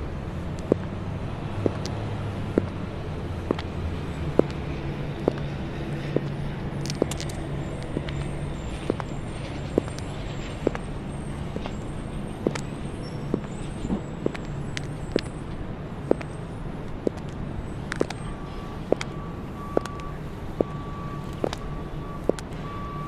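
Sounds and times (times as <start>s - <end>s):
road traffic rumble: 0.0s - 23.0s
high heels clicking on pavement: 0.5s - 22.6s.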